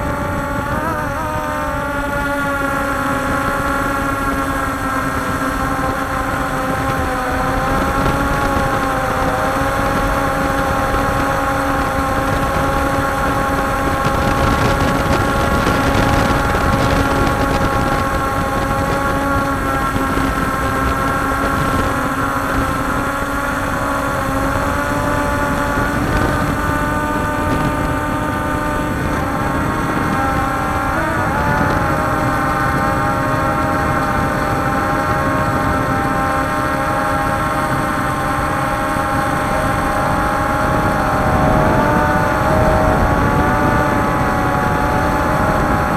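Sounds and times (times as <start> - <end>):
constant rushing noise: 0.0 - 45.9
drone motors whining: 0.0 - 45.9.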